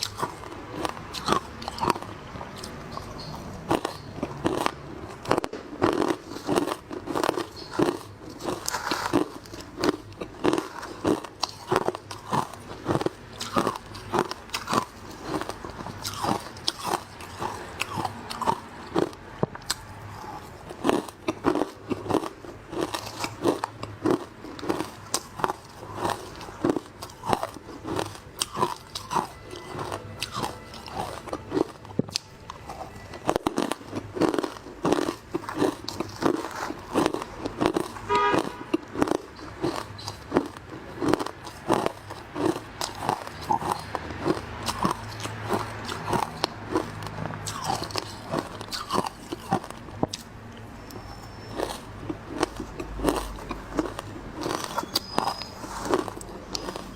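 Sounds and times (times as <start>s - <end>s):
ice crunching when chewed: 0.0s - 56.9s.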